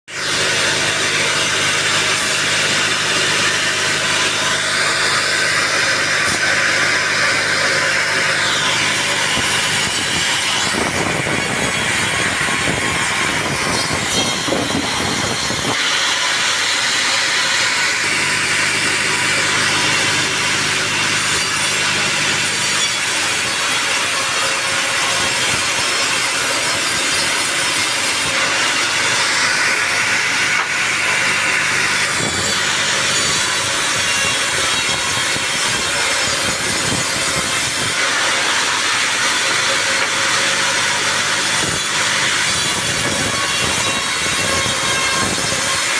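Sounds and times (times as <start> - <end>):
sawmill saw cutting log: 0.1 - 45.9.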